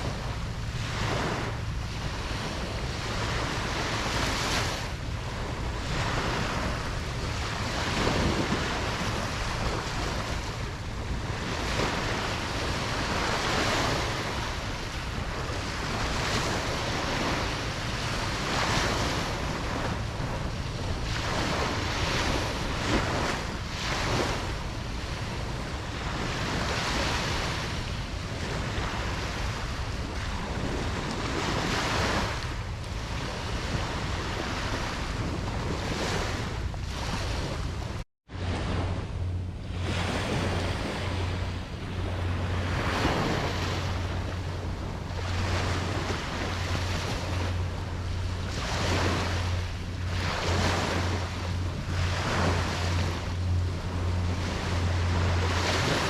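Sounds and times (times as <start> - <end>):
ocean waves washing onto beach: 0.0 - 56.0
steady low rumble: 0.0 - 56.0
wind on microphone: 0.0 - 56.0.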